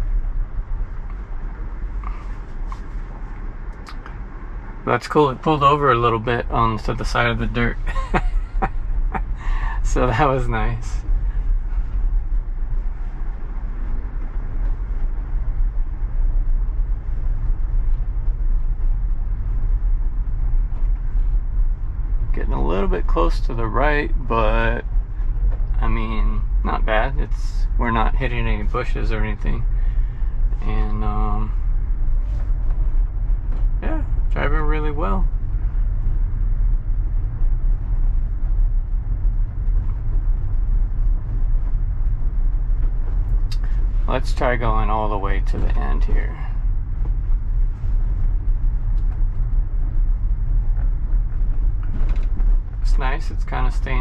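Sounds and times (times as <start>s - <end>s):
tyre and road rumble: 0.0s - 54.0s.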